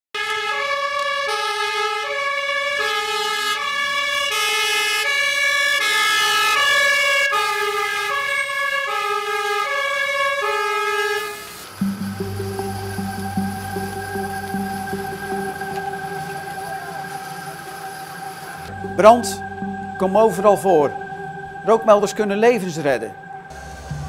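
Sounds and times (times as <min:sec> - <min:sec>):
fire engine two-tone siren: 0:00.1 - 0:24.0.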